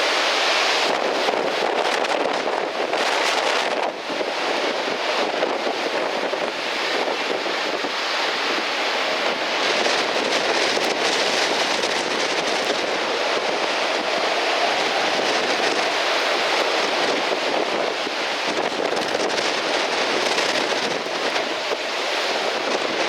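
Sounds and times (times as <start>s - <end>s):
strong wind rushing through trees: 0.0s - 23.0s.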